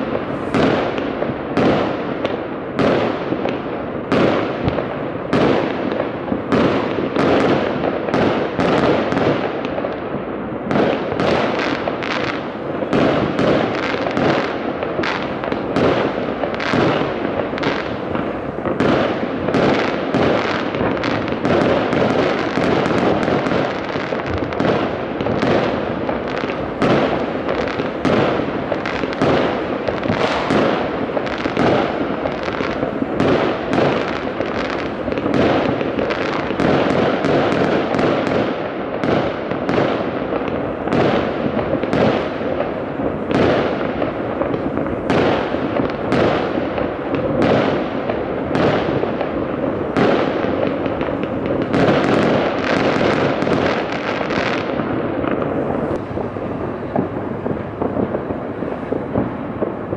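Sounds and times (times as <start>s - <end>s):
fireworks and firecrackers banging: 0.0s - 59.9s.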